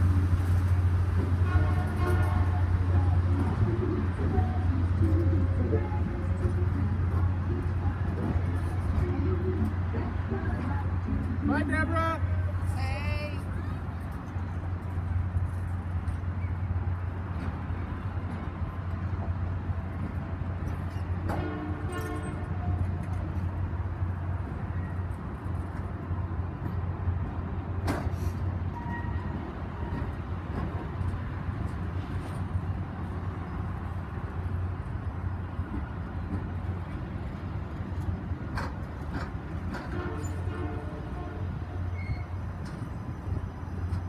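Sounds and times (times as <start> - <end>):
train cars rumbling past: 0.0 - 44.0.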